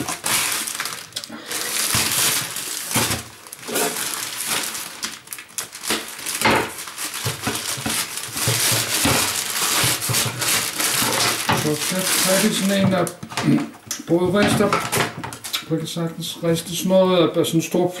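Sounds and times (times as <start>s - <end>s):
packaging crinkling and rustling: 0.0s - 15.6s.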